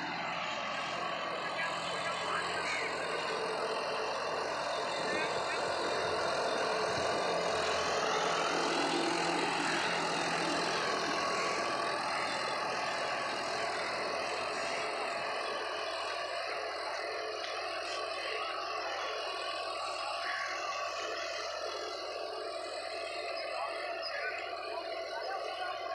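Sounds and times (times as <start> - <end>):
tractor diesel engine under load: 0.0 - 25.9.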